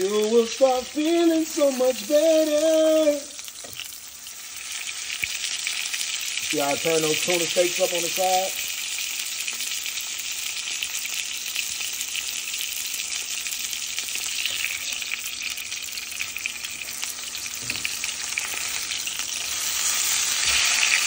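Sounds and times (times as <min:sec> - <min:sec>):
fish sizzling in a frying pan: 0:00.0 - 0:21.0.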